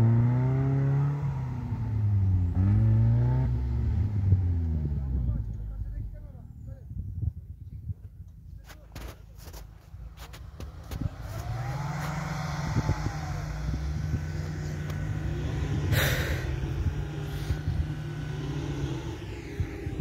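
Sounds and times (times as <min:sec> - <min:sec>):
car engine pulling steadily: 0:00.0 - 0:20.0.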